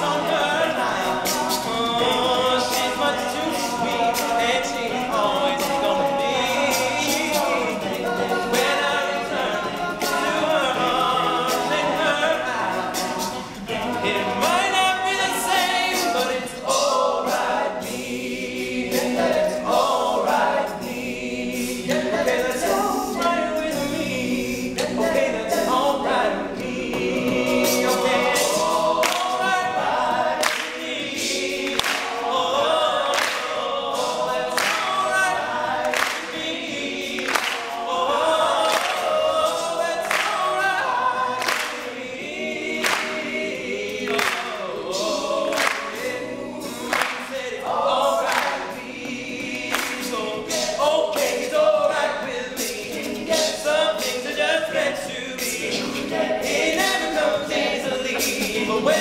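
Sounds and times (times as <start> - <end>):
lead voice singing: 0.0 - 59.0
male a cappella group singing: 0.0 - 59.0.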